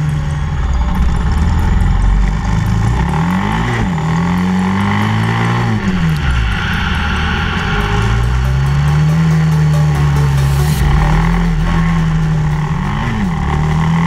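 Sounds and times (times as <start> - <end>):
motorcycle engine accelerating: 0.0 - 14.0
wind and road noise: 0.0 - 14.0.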